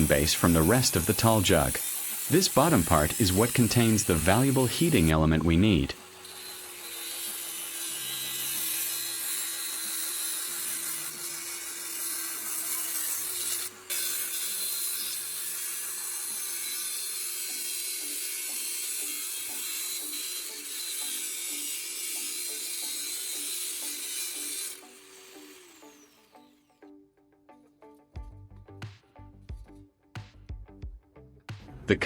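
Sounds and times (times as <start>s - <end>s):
angle grinder cutting metal: 0.0s - 26.7s.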